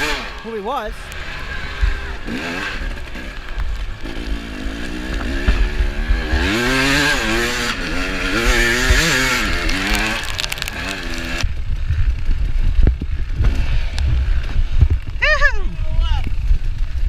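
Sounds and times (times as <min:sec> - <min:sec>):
dirt bike engine revving: 0:00.0 - 0:15.6.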